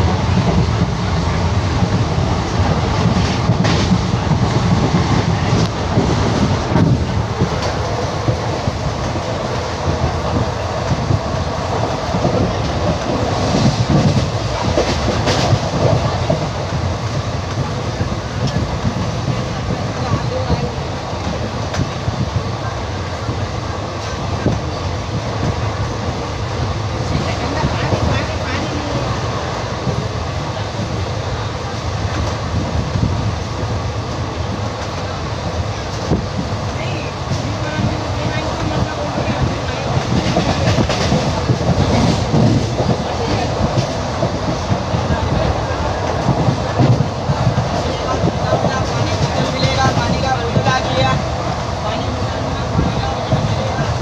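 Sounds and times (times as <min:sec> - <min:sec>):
train wheels rumbling with clacks: 0:00.0 - 0:54.0.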